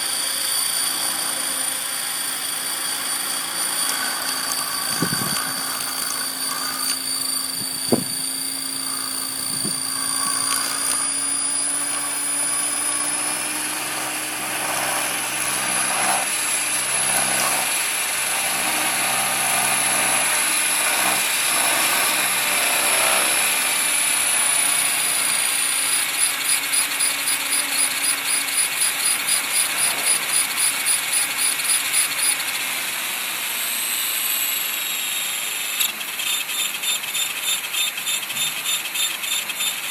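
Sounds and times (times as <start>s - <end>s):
pulsing vibration: 0.0s - 32.3s
helicopter motor and rotor whine: 0.0s - 39.9s.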